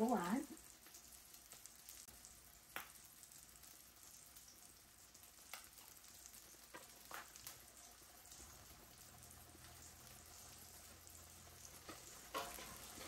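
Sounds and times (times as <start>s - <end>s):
meat patties sizzling: 0.0s - 13.0s.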